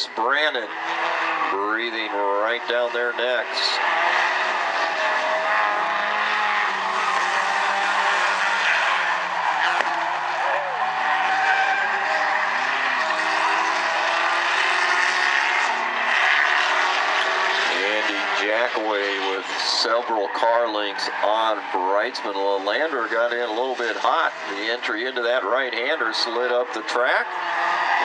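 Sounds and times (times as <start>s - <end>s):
race car engines at full throttle: 0.0s - 28.0s
tire noise: 0.0s - 28.0s.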